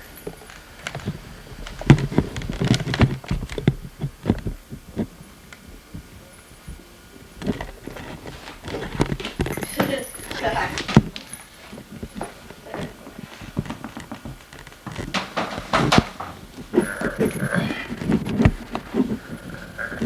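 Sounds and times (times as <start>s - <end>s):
puppy paws knocking and thumping: 0.2s - 6.8s, 7.4s - 20.0s.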